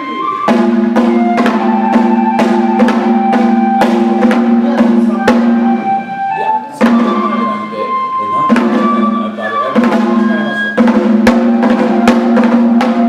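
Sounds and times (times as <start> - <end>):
sharp percussion strikes: 0.0 - 13.0
sustained held pitched notes: 0.0 - 13.0.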